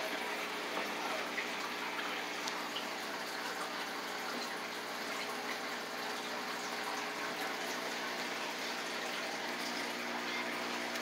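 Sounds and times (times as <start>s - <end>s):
running water: 0.0s - 11.0s.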